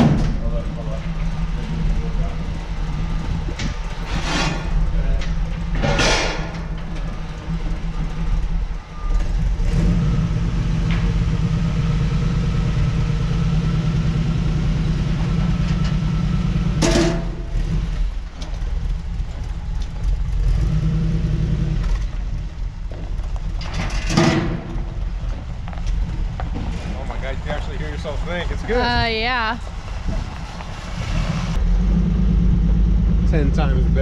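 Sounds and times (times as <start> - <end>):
engine idling low rumble: 0.0 - 34.0.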